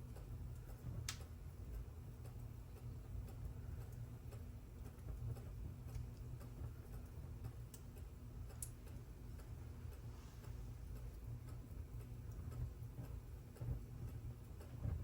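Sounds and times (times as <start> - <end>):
low steady rumble: 0.0 - 15.0
wood fire crackling: 0.0 - 15.0.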